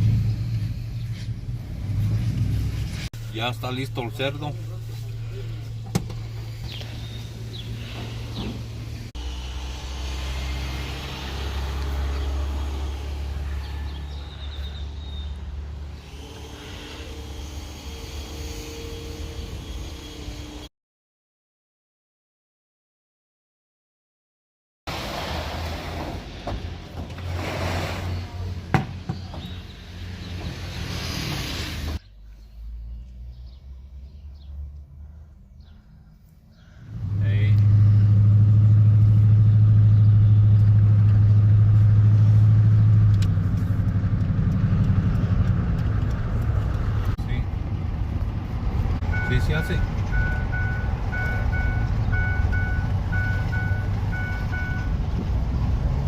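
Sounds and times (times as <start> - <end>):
vehicle engine low rumble: 0.0 - 20.7, 24.9 - 56.0.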